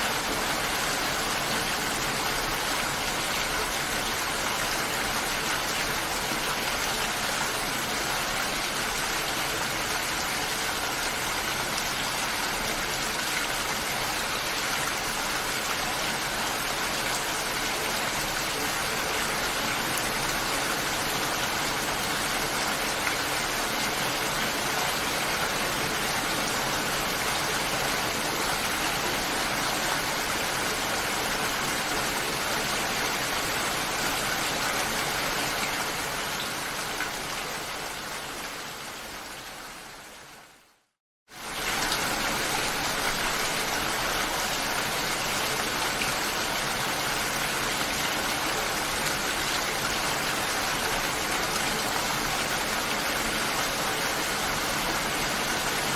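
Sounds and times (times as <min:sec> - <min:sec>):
dense rain hiss: 0:00.0 - 0:55.9.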